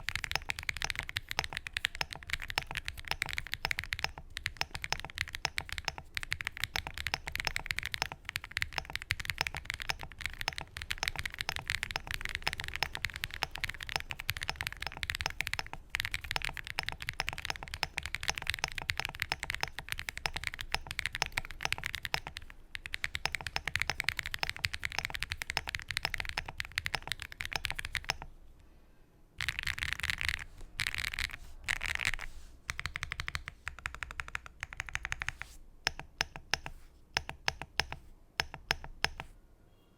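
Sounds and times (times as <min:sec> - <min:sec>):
fast typing on mechanical keyboard: 0:00.0 - 0:28.3, 0:29.4 - 0:39.3.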